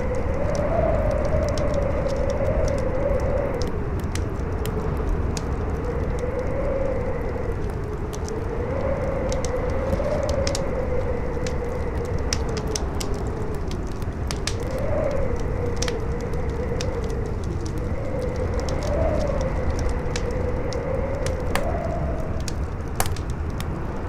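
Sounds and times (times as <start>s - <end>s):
fire crackling: 0.0s - 24.0s
howling wind: 0.0s - 24.0s.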